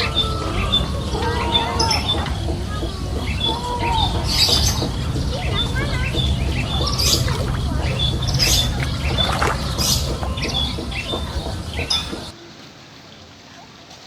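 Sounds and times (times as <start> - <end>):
high chirping animal calls: 0.0 - 12.3
steady low rumble: 0.0 - 12.3.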